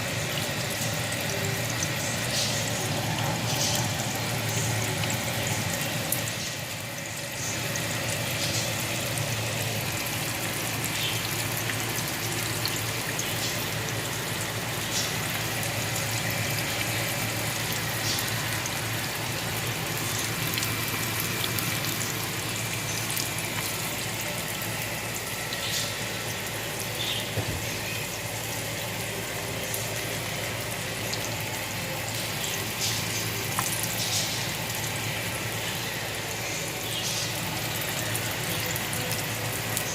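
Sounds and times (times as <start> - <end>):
tomato slices frying in oil: 0.0 - 39.9.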